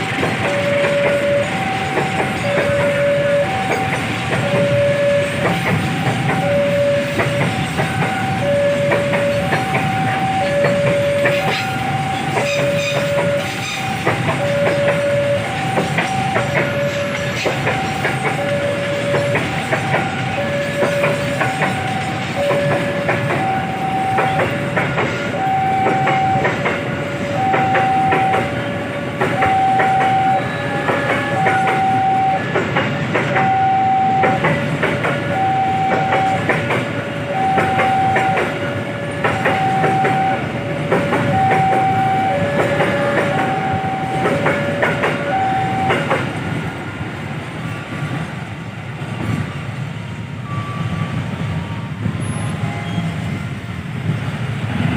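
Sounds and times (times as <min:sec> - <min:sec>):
train wheels clacking on rails: 0:00.0 - 0:54.9
two-tone crossing alarm: 0:00.0 - 0:54.9.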